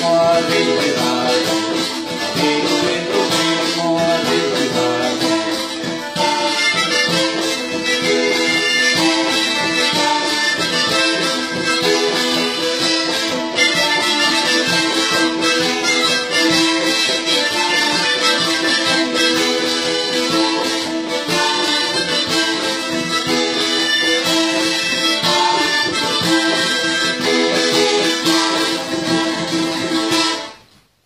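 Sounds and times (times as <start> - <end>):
accordion playing a folk tune: 0.0 - 30.6.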